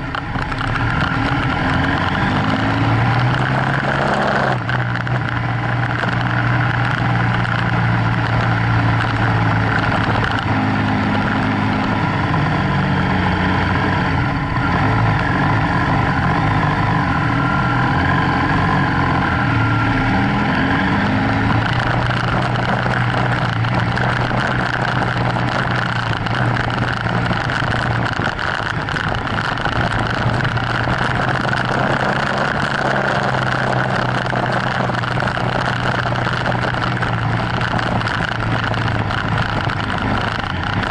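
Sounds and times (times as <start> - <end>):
tyres on gravel: 0.0 - 12.5, 20.4 - 40.9
motorcycle engine running: 0.0 - 40.9.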